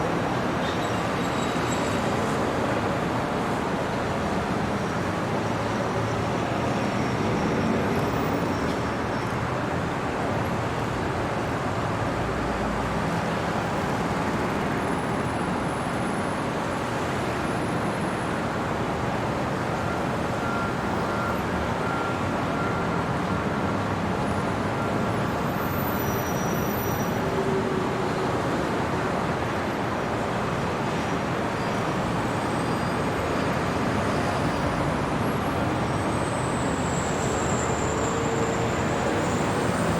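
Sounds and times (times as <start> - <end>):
city traffic hum: 0.0 - 39.9.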